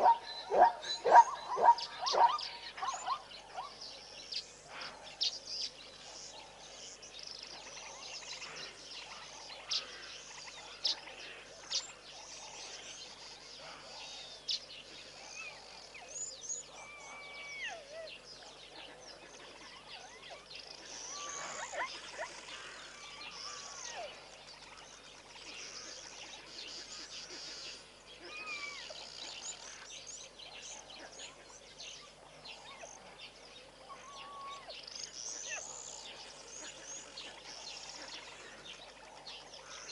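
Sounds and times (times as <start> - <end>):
wild birds chirping and whistling: 0.0 - 39.9.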